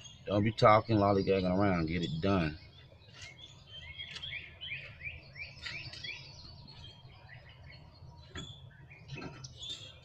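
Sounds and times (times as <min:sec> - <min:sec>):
bird singing rising chirps: 0:00.0 - 0:10.0.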